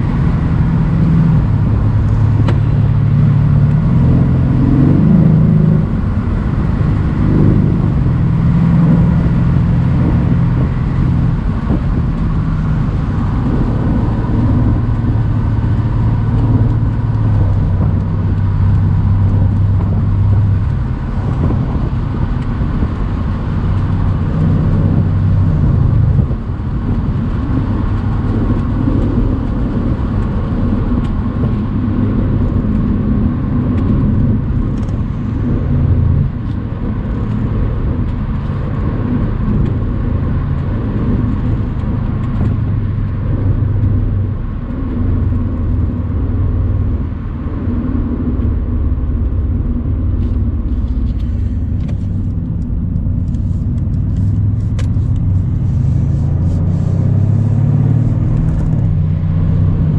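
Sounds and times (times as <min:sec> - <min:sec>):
car engine running: 0:00.0 - 0:59.9
tyre and road noise: 0:00.0 - 0:59.9.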